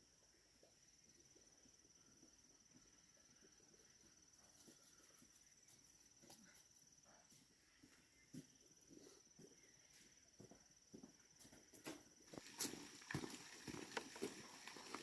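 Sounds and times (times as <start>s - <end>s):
high-pitched insect trill: 0.7s - 15.0s.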